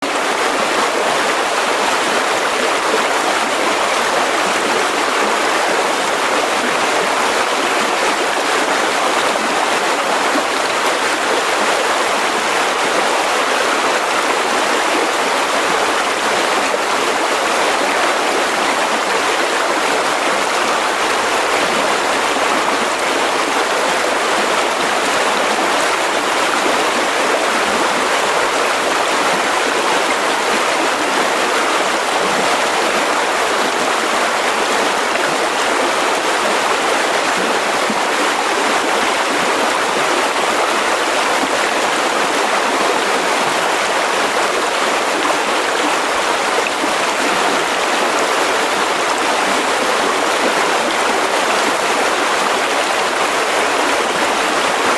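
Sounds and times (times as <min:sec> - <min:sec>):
river rushing over rocks: 0:00.0 - 0:54.9.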